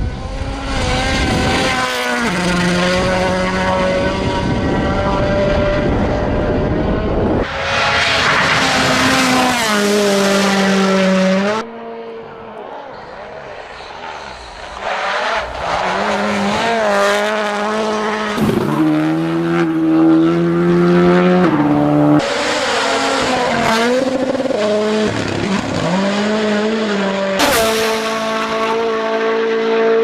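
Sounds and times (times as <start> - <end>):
car engines accelerating hard: 0.0 - 30.0.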